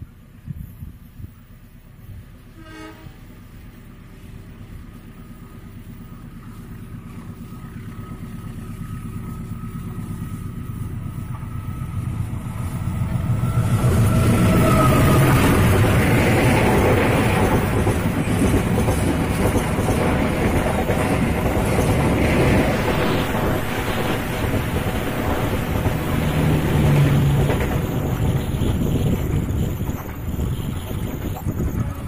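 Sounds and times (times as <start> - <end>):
diesel train engine: 0.0 - 32.0
train wheels on rails: 0.0 - 32.0.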